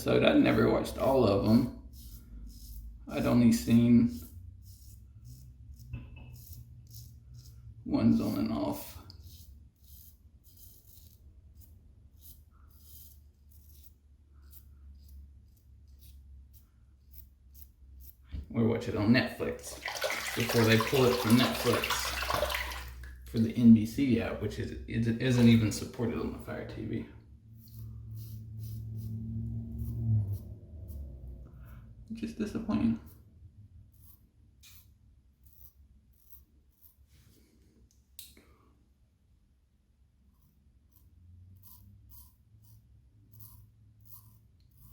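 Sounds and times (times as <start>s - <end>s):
razor scraping stubble: 0.0s - 19.5s, 23.0s - 37.3s, 40.3s - 44.9s.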